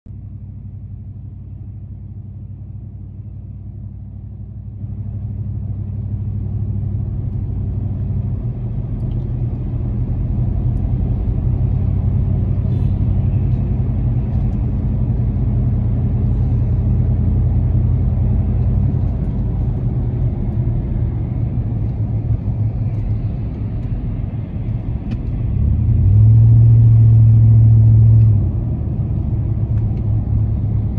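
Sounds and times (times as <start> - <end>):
tyres and engine rumbling: 0.1 - 30.9.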